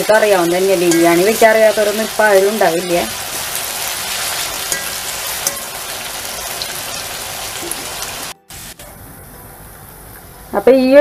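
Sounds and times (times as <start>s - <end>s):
onions sizzling in hot oil: 0.0s - 10.9s.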